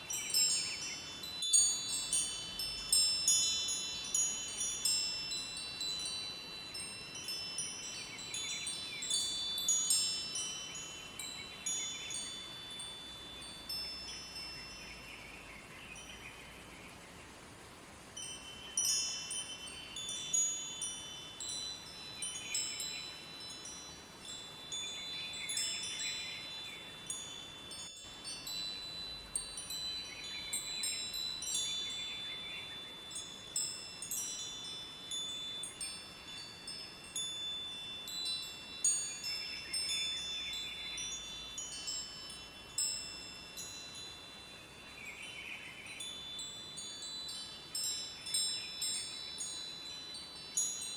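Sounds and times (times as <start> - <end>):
wind chimes ringing: 0.0 - 16.3, 18.1 - 50.9
river water running: 0.0 - 50.9.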